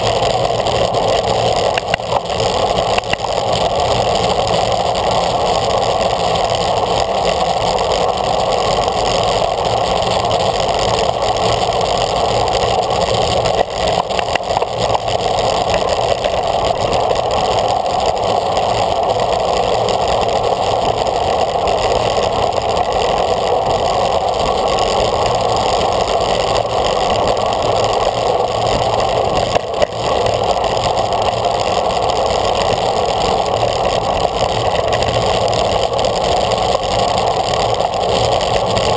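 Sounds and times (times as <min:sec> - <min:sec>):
bicycle road noise: 0:00.0 - 0:38.9.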